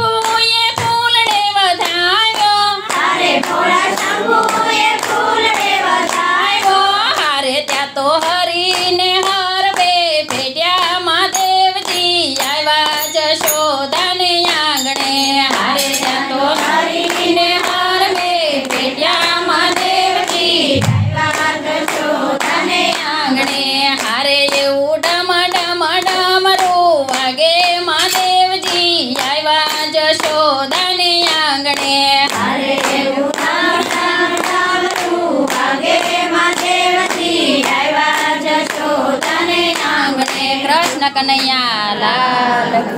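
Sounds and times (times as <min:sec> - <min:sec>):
rhythmic hand clapping: 0:00.0 - 0:42.9
devotional singing: 0:01.0 - 0:41.0, 0:41.7 - 0:42.9.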